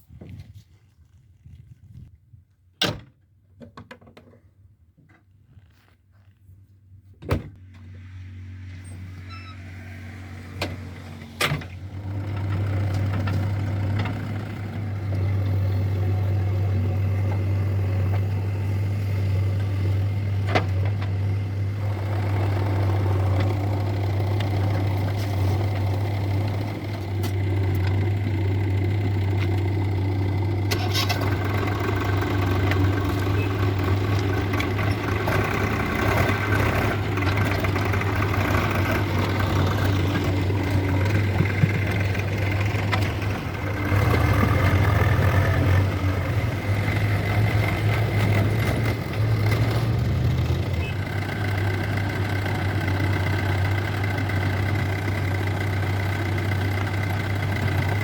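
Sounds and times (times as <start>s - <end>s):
diesel engine running: 7.6s - 58.0s.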